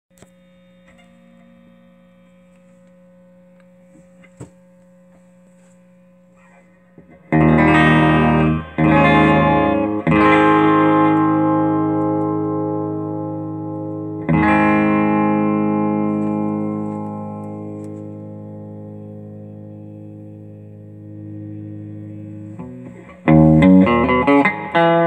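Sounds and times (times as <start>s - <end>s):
amplifier hum: 0.1s - 25.0s
electric guitar chords: 0.2s - 25.0s.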